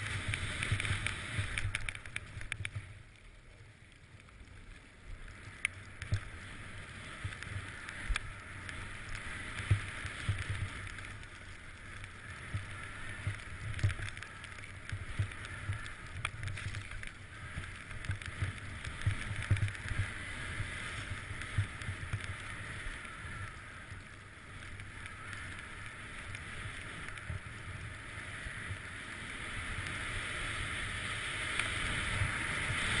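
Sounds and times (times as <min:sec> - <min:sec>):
sharp ski clicks: 0:00.0 - 0:03.0, 0:05.4 - 0:33.0
skis scraping on snow: 0:00.0 - 0:33.0.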